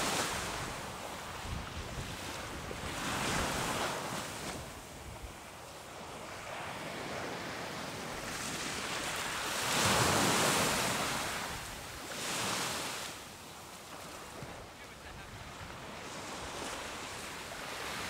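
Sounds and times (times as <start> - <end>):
ocean waves washing up beach: 0.0 - 18.0.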